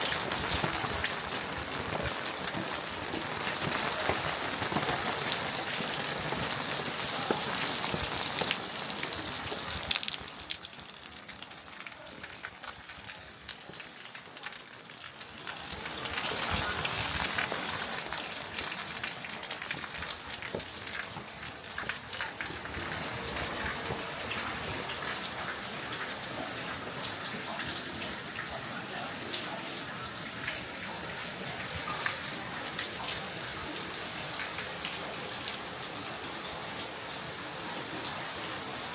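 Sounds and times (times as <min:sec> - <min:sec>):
rushing gushing water: 0:00.0 - 0:38.9
steady rain: 0:00.0 - 0:38.9.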